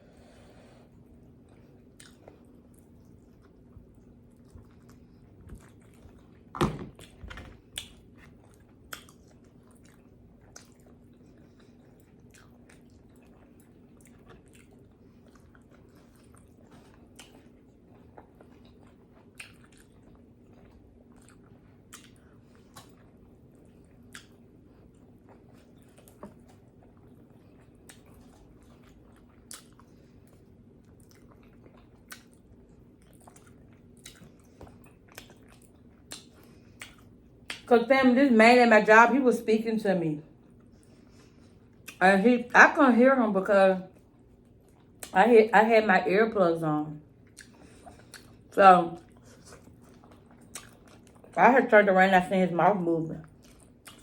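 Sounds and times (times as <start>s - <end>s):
wet chewing and smacking: 1.0s - 37.7s, 40.3s - 42.0s, 43.9s - 45.2s, 47.0s - 51.4s, 53.2s - 54.0s.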